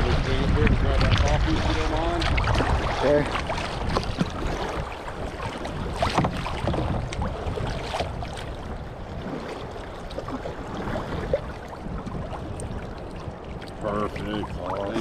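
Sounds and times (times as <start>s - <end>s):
water splashing against kayak hull: 0.0s - 15.0s.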